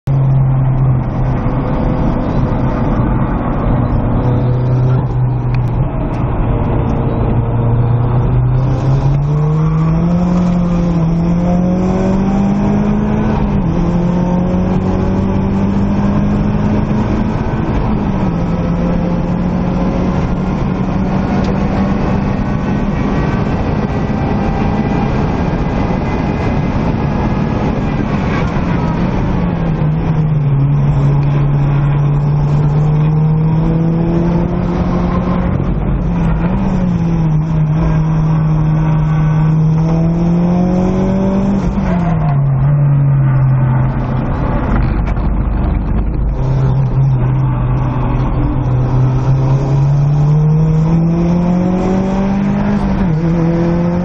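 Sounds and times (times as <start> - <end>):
road and wind noise: 0.0 - 54.0
turbocharged car engine accelerating: 0.0 - 54.0.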